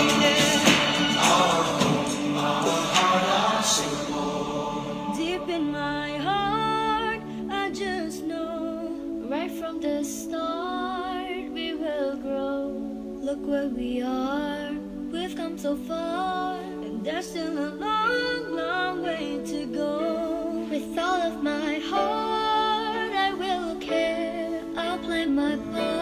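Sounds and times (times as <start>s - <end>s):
voices singing wordless harmonies: 0.0s - 26.0s.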